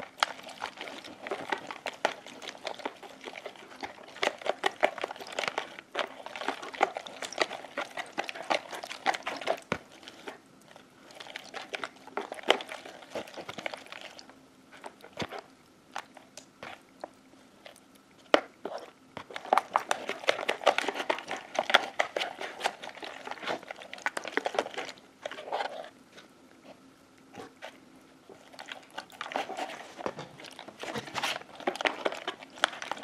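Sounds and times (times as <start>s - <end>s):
wet squishing and sloshing: 0.0s - 33.0s.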